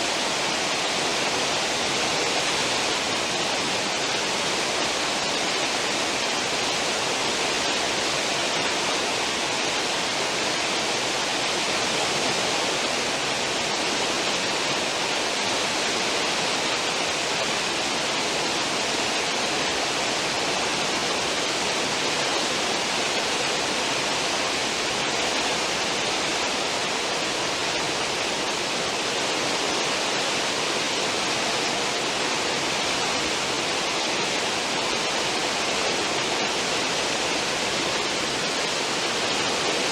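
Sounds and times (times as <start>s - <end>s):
ship wake water rushing: 0.0s - 39.9s.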